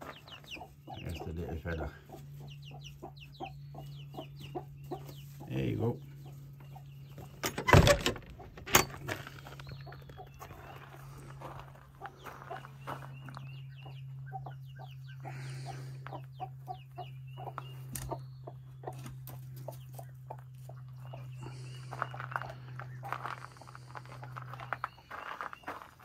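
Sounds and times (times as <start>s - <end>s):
chickens clucking: 0.0s - 7.6s, 8.2s - 26.0s
chicks peeping: 0.0s - 7.6s, 9.3s - 26.0s.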